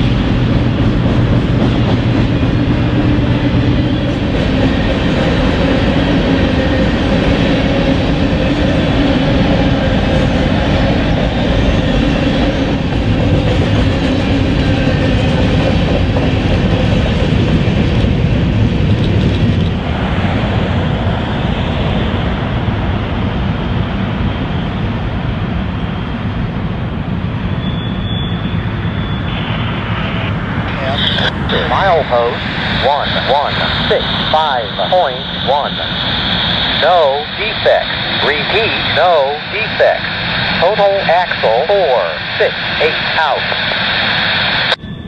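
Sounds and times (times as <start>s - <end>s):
steel wheels running on rail: 0.0s - 45.0s.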